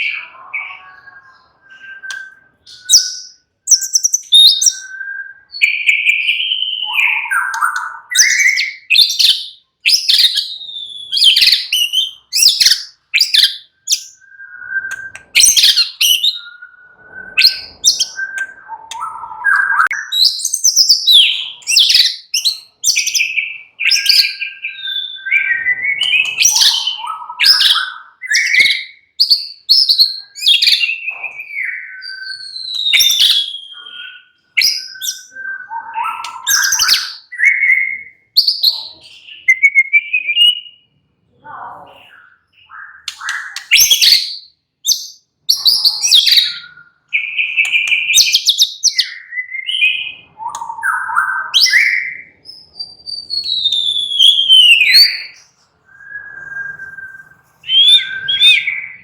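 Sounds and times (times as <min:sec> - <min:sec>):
bird singing whistled phrases: 0:00.0 - 0:40.9, 0:41.5 - 0:59.0.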